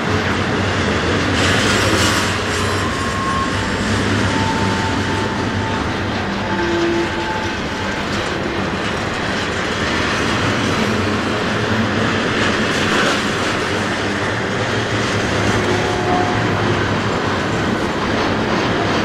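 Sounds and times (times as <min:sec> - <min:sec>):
freight train wheels rumbling on rails: 0:00.0 - 0:19.0.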